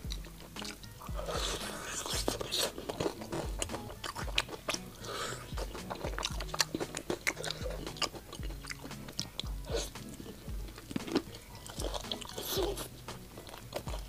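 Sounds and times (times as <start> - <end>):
soft background music: 0.0 - 14.0
wet chewing: 0.0 - 14.0
crunching fried chicken skin: 0.2 - 14.0.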